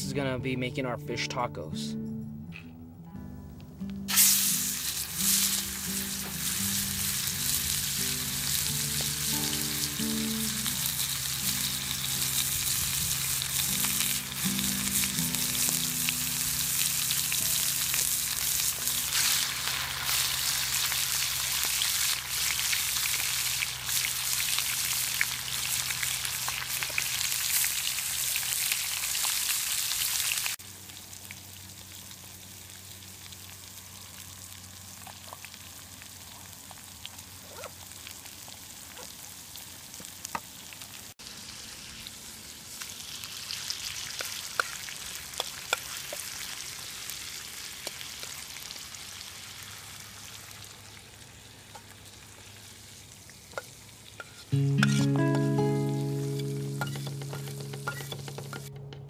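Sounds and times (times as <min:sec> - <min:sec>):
fish sizzling in hot oil: 0:04.1 - 0:55.0.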